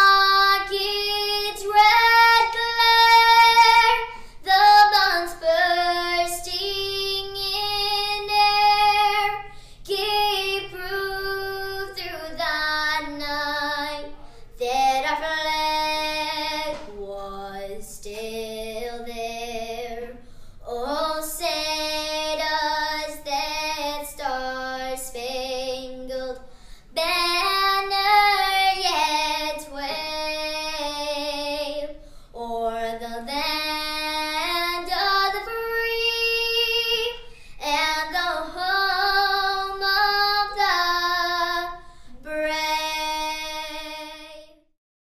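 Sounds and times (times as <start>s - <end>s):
woman singing slow song: 0.0s - 44.6s.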